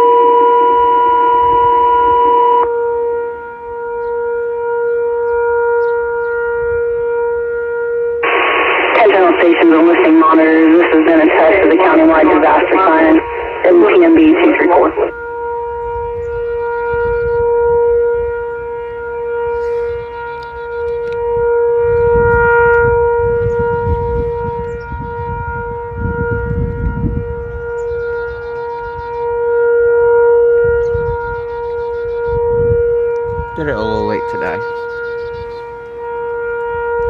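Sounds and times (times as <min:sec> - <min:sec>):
tornado warning siren steady tone: 0:00.0 - 0:37.0.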